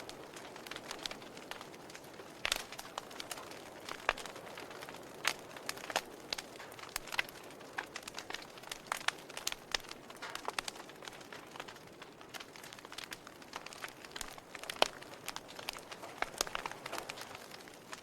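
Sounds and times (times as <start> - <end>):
logs crackling in fireplace: 0.0 - 18.0
soft fire hiss: 0.0 - 18.0.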